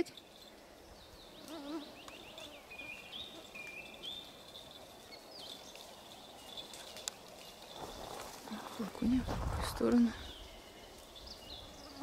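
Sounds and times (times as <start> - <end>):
faint forest air: 0.0 - 12.0
songbirds chirping: 0.0 - 12.0.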